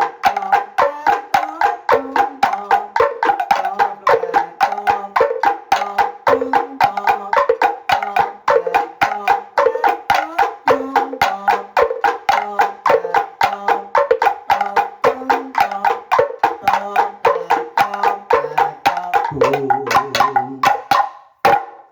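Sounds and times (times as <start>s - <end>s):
slit drums playing fast rhythm: 0.0s - 21.9s.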